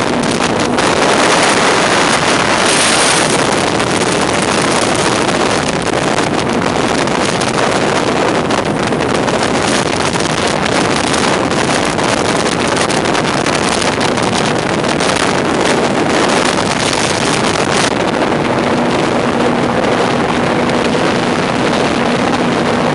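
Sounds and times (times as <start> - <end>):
jet boat engine and spray: 0.0 - 22.9
wind buffeting microphone: 0.0 - 22.9.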